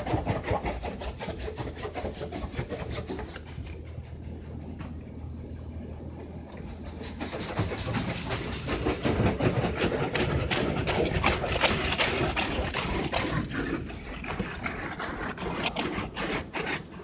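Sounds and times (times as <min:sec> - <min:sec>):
car wash spraying and scrubbing: 0:00.0 - 0:05.0, 0:06.5 - 0:17.0.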